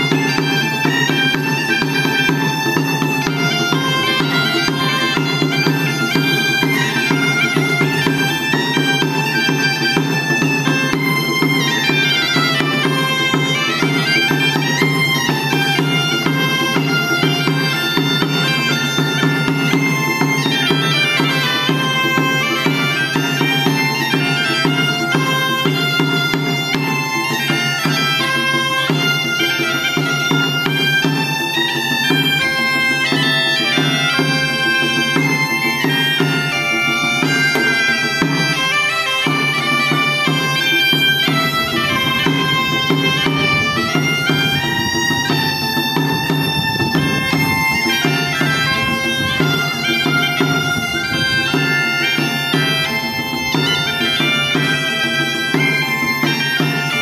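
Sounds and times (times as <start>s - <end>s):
bagpipe drone: 0.0s - 57.0s
bagpipes playing a melody: 0.0s - 57.0s.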